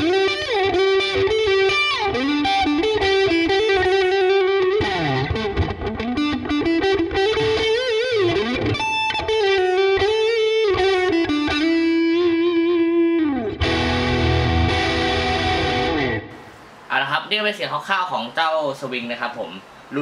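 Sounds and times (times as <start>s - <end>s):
overdriven electric guitar: 0.0s - 16.4s.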